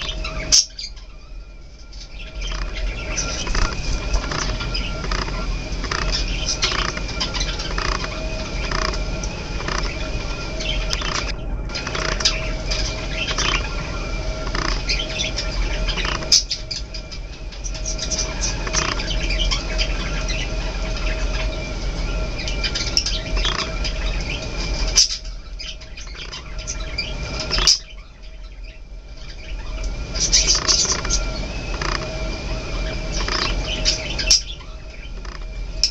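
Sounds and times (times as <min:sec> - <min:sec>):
budgerigars chirping and chattering: 0:00.0 - 0:01.3, 0:02.0 - 0:21.6, 0:22.3 - 0:35.9
steady background hum: 0:00.0 - 0:35.9.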